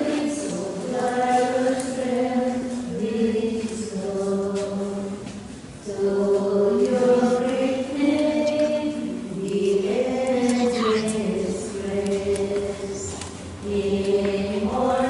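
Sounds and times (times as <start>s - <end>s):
choir singing long held notes: 0.0s - 15.0s.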